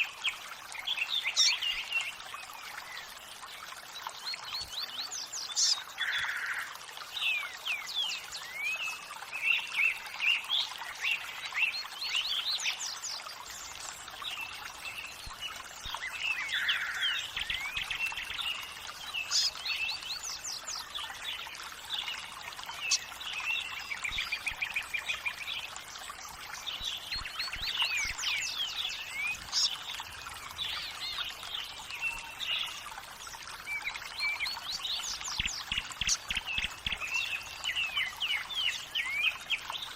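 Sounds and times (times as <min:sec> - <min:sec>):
running water: 0:00.0 - 0:39.9
songbirds chirping: 0:00.0 - 0:39.9.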